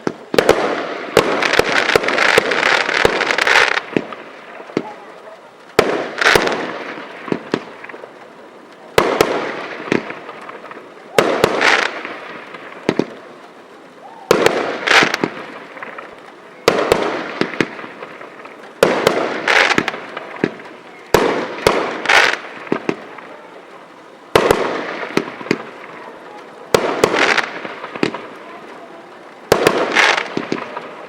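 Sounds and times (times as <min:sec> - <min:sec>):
firework hissing and crackling: 0:00.0 - 0:31.0
firework reports: 0:00.0 - 0:31.0.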